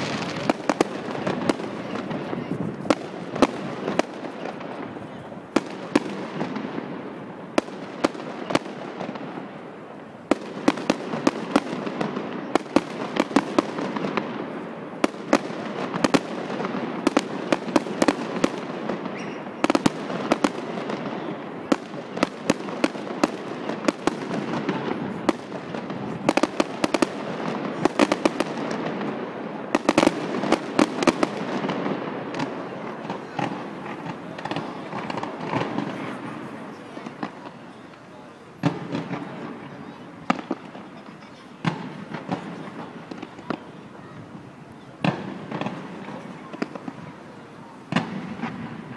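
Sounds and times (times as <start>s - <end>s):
fireworks bangs: 0.0s - 48.9s
fireworks crackle: 0.0s - 48.9s.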